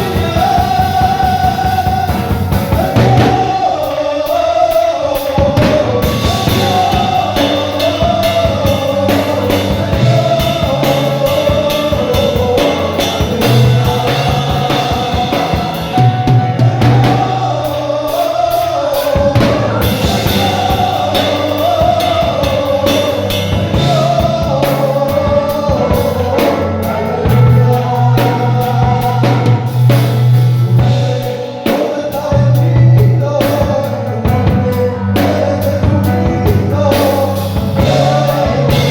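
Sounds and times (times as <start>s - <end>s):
band with drums and bass: 0.0s - 38.9s
person singing worship song: 0.0s - 38.9s.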